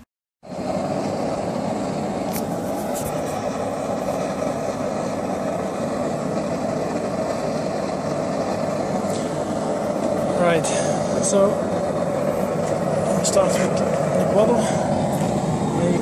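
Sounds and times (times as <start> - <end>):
gas forge burner roaring: 0.4 - 16.0.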